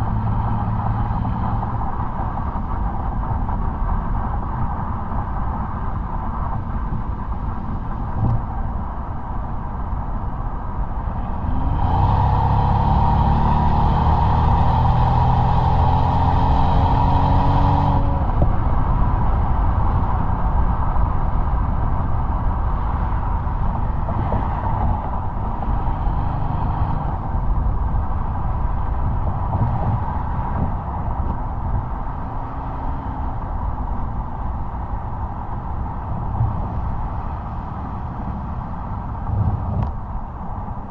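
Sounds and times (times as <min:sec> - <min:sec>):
car exhaust under hard acceleration: 0:00.0 - 0:40.9
road noise: 0:00.0 - 0:40.9.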